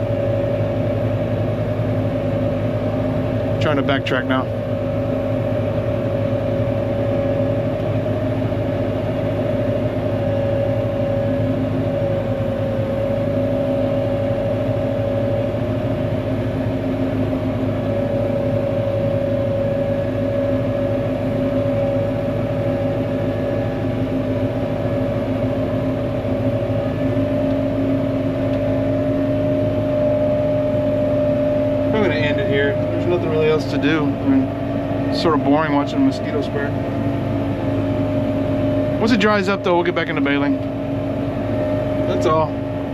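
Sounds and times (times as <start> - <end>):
fogger engine droning with whine: 0.0 - 42.9.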